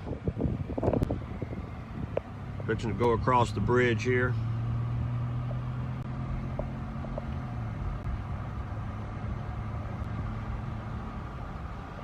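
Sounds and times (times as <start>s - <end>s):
car engine humming with road noise: 0.0s - 12.0s.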